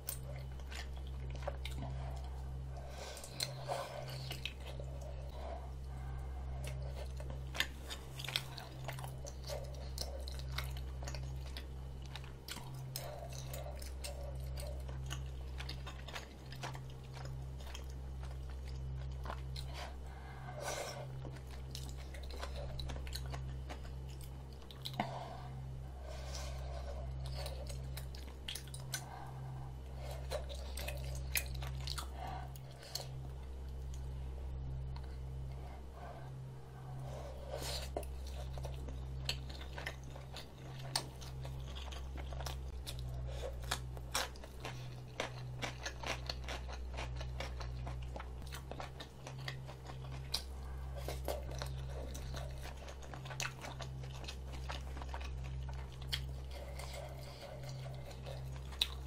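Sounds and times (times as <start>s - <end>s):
close chewing of noodles: 0.0s - 59.0s
steady low hum: 0.0s - 59.0s.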